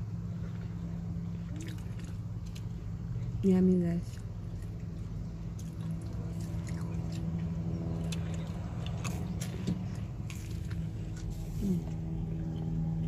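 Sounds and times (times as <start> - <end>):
steady low hum: 0.0 - 13.0
chewing crunchy food: 1.4 - 3.4, 4.0 - 13.0.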